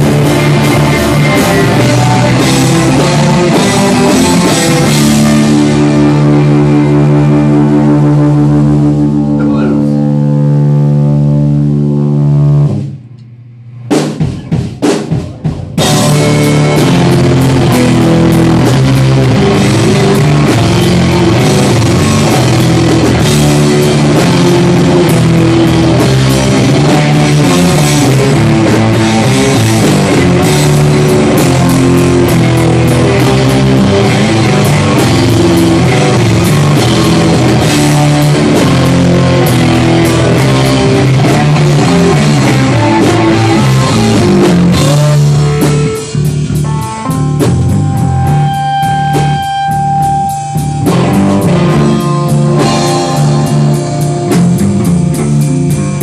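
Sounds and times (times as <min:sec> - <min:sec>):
rock music with drums and guitar: 0:00.0 - 0:13.1, 0:13.8 - 0:56.0.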